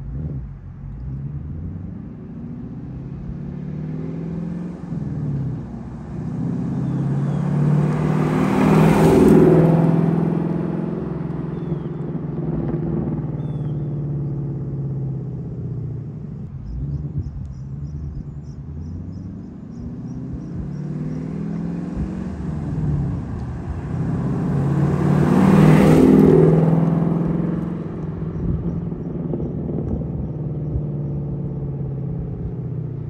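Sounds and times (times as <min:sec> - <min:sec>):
car driving past: 0:01.0 - 0:15.4, 0:16.1 - 0:33.0.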